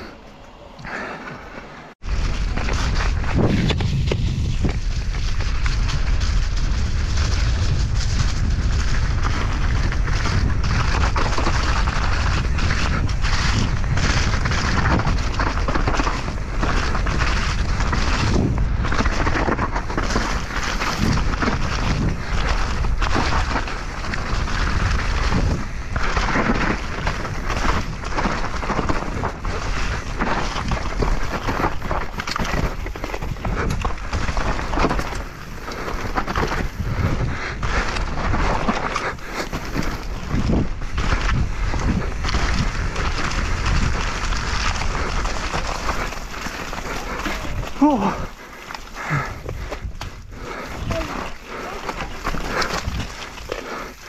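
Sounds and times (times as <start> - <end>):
bike clattering and rattling: 2.0 - 54.0
wind rush on microphone: 2.0 - 54.0.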